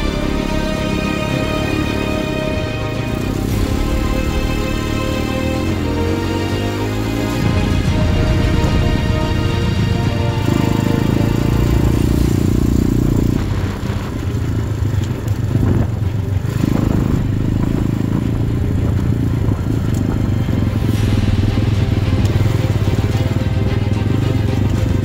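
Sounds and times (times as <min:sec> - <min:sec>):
background music: 0:00.0 - 0:25.0
motorcycle engine running: 0:00.0 - 0:25.0.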